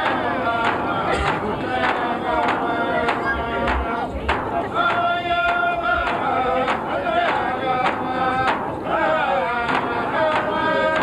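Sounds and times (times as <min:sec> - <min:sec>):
frame drums beating: 0:00.0 - 0:11.0
group singing a chant: 0:00.0 - 0:11.0.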